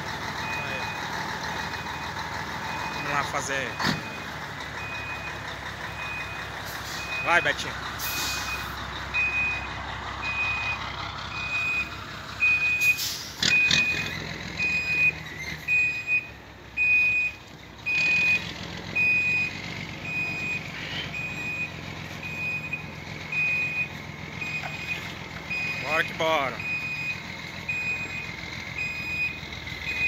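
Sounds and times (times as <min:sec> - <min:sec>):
heavy engines running: 0:00.0 - 0:30.0
reversing alarm beeping: 0:00.4 - 0:30.0.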